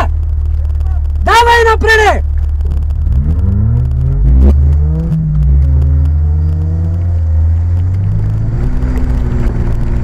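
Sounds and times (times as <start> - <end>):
off-road vehicle engine under load: 0.0 - 10.0.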